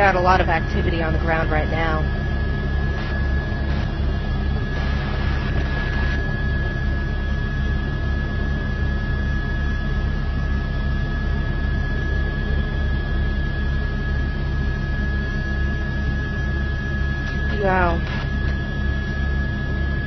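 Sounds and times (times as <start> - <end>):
helicopter rotor and engine drone: 0.0 - 20.0
thin high whine: 0.0 - 20.0.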